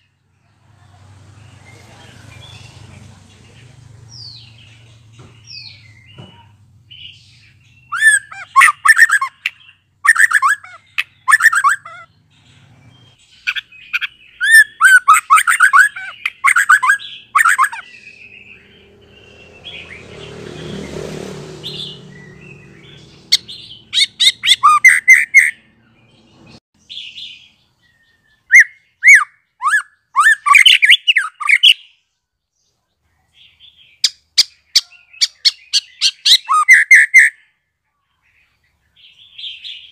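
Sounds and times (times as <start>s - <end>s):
bird singing rapid chirping phrases: 0.0s - 39.9s.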